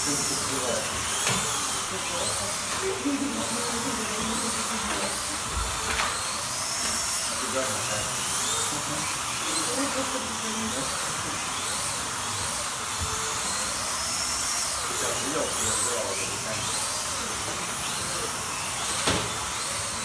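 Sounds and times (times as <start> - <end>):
faint voices: 0.0 - 20.0
slot car motors whining: 0.0 - 20.0.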